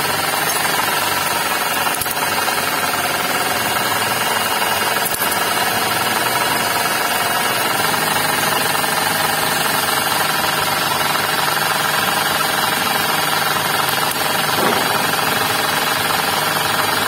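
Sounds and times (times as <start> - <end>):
car engine running: 0.0 - 17.0
rough rattle from belt drive: 0.0 - 17.0.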